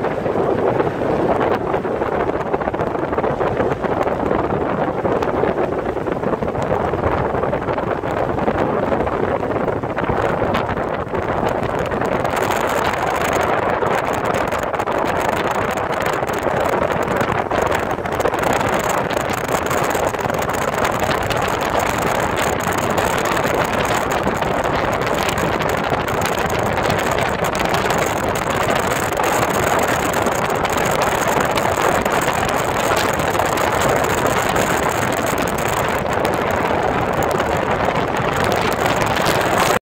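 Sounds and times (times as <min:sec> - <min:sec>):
wind on microphone: 0:00.0 - 0:39.8.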